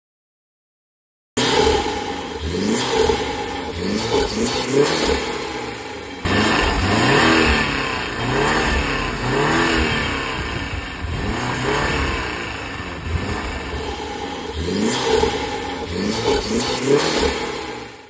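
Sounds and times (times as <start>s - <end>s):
car engine revving: 1.4s - 18.0s.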